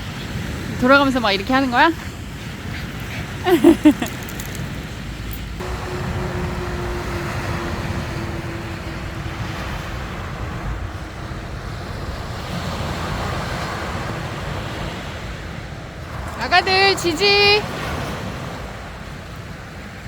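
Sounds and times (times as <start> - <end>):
sea waves washing onto beach: 0.0 - 20.0
wind rumbling on microphone: 0.0 - 20.0.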